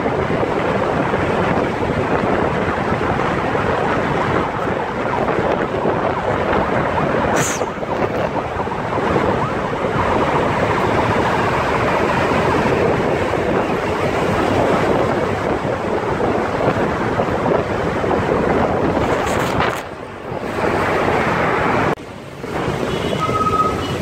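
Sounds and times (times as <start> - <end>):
vehicle engine and tyre noise: 0.0 - 24.0
wind on microphone: 0.0 - 24.0.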